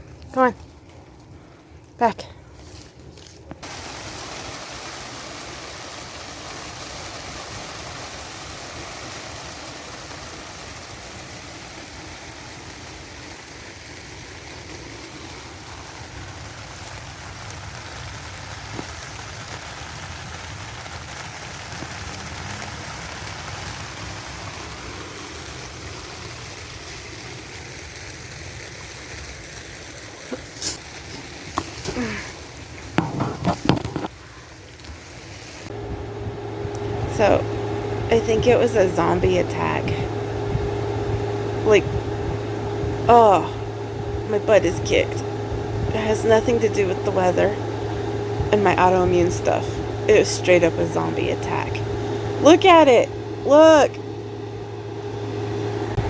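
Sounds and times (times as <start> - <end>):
steady rain falling: 2.7 - 56.0.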